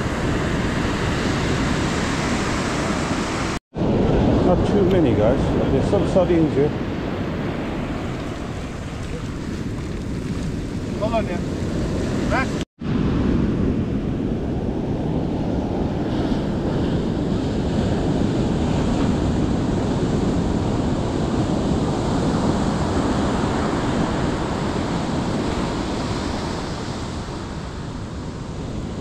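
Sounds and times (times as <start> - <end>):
ocean surf washing on beach: 0.0 - 29.0
wind rumbling on microphone: 0.0 - 29.0.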